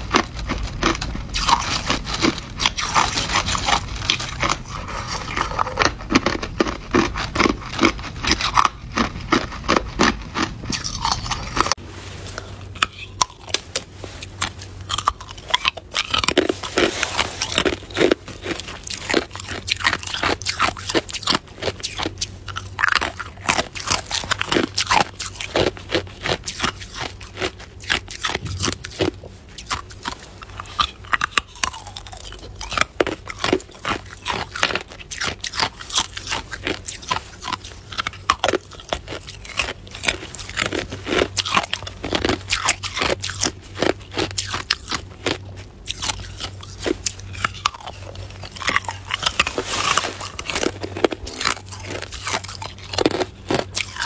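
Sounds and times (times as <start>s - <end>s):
ice cubes crunching: 0.0s - 54.0s.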